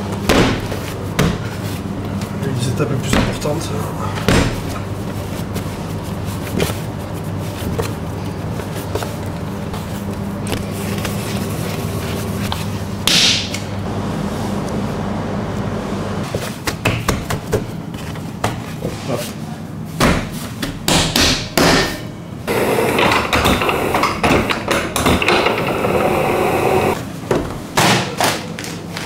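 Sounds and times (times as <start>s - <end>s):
bakery machinery hum: 0.0s - 29.0s.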